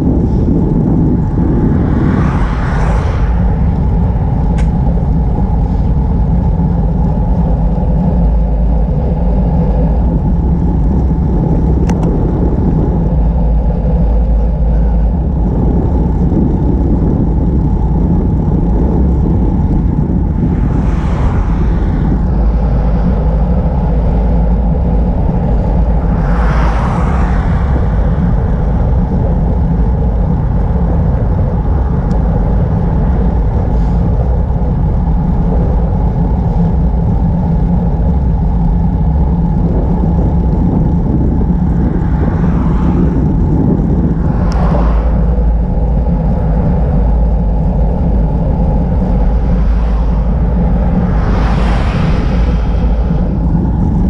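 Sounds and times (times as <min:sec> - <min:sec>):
road noise while cycling: 0:00.0 - 0:54.0
vehicles passing: 0:00.0 - 0:54.0
wind buffeting: 0:00.0 - 0:54.0.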